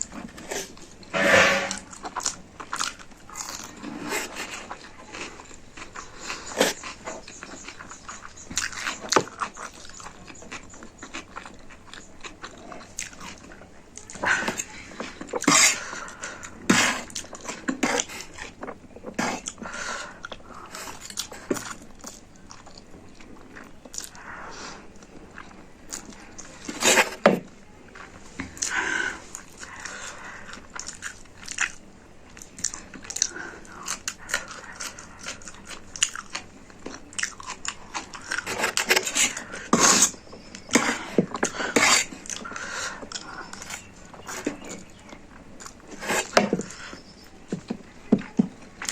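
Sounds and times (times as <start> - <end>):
chewing noodles: 0.0 - 48.9.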